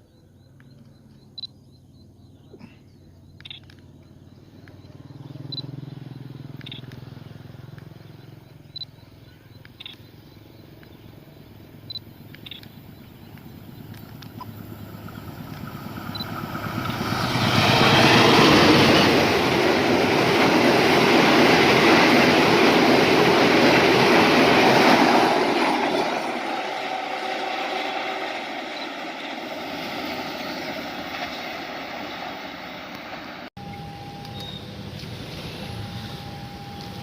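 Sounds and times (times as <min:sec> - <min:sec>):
passenger train passing: 0:03.7 - 0:37.0.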